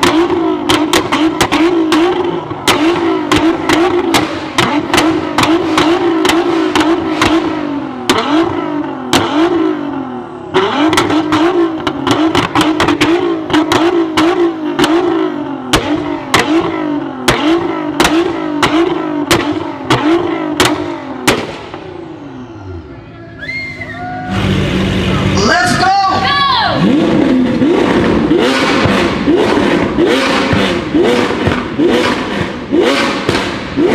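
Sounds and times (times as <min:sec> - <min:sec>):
exhaust pops and bangs: 0:00.0 - 0:09.6, 0:10.8 - 0:21.9, 0:27.0 - 0:33.9
sports car engine revving: 0:00.0 - 0:22.9, 0:24.0 - 0:33.9.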